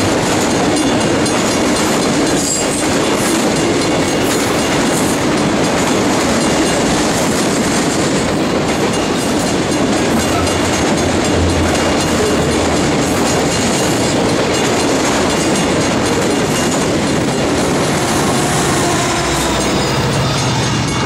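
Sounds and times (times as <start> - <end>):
diesel locomotive engine drone: 0.0 - 21.0
train wheels rolling on rails: 0.0 - 21.0.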